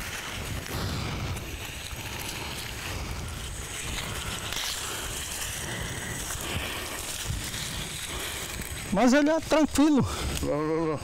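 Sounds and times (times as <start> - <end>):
palm fronds rustling: 0.0 - 11.0
steady hiss: 0.0 - 11.0
wind rumble on microphone: 0.0 - 11.0.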